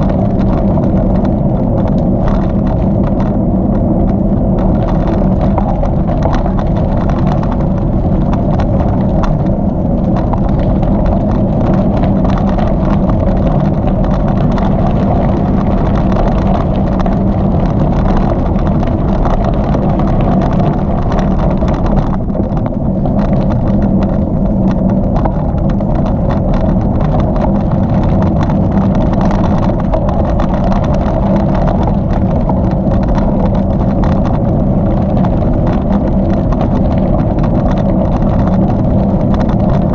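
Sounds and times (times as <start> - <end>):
bicycle tyre noise: 0.0 - 39.9
fine crackling ticks: 0.0 - 39.9
low hum: 0.0 - 39.9
wind on microphone: 0.0 - 39.9.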